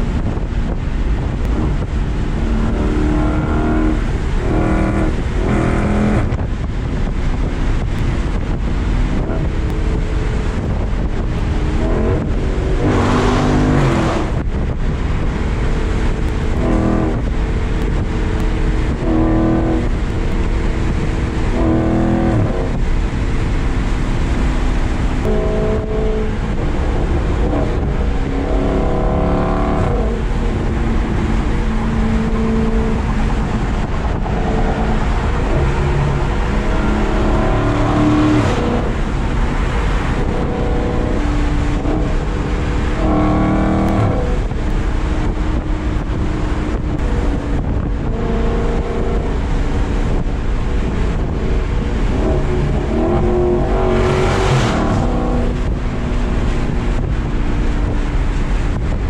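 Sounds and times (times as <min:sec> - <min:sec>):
car exhaust drone: 0:00.0 - 0:59.0
road and wind noise: 0:00.0 - 0:59.0.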